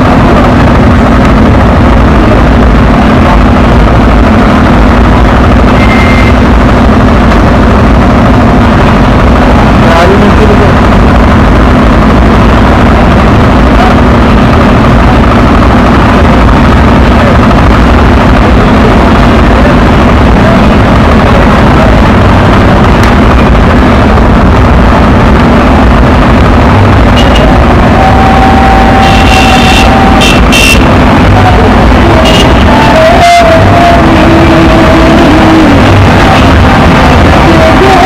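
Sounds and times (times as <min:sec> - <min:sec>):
crowd voices: 0:00.0 - 0:38.0
heavy lorry engines running: 0:00.0 - 0:38.0.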